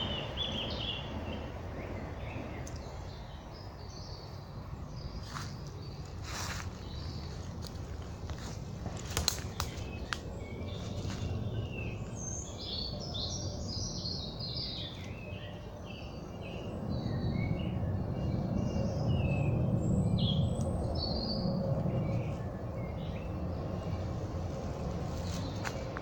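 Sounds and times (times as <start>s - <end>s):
low rumble: 0.0s - 26.0s
small birds chirping: 0.0s - 26.0s.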